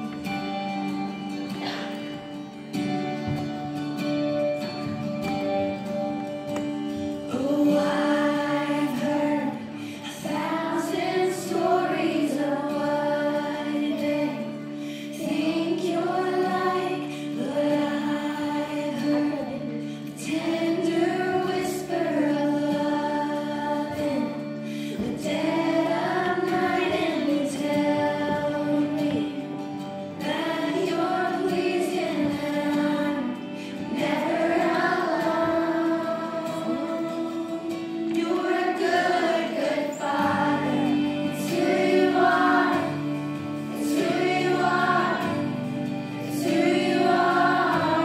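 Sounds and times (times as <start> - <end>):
children's choir singing: 0.0 - 48.0
instrumental accompaniment: 0.0 - 48.0.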